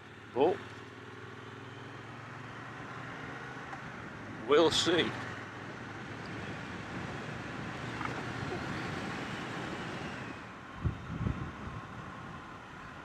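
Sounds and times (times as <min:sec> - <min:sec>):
motorcycle running at cruise: 0:00.0 - 0:12.2
wind and road noise: 0:00.0 - 0:13.0.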